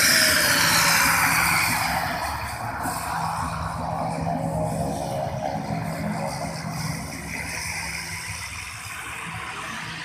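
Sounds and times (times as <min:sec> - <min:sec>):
turboprop engine and propeller: 0:00.0 - 0:10.0.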